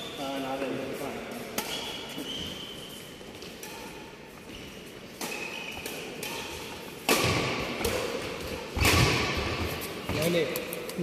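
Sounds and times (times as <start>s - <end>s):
racket hitting shuttlecock: 1.3s - 11.0s.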